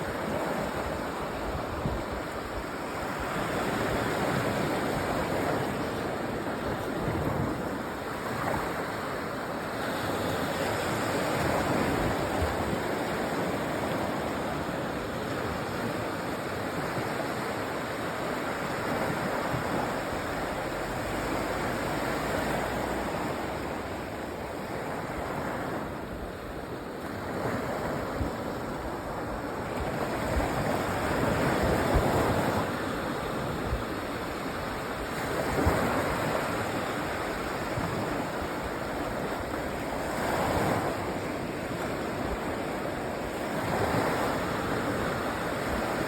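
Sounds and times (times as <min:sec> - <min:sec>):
waves breaking on sandy beach: 0:00.0 - 0:46.0
wind on microphone: 0:00.0 - 0:46.0.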